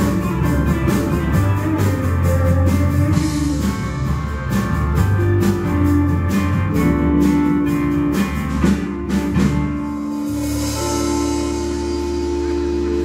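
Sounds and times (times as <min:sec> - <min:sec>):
blues band playing: 0:00.0 - 0:13.0.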